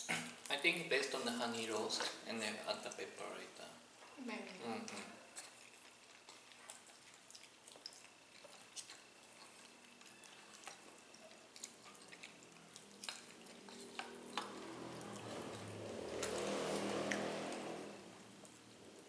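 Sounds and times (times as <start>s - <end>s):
clicks and taps of eating: 0.0s - 2.2s, 4.8s - 19.0s.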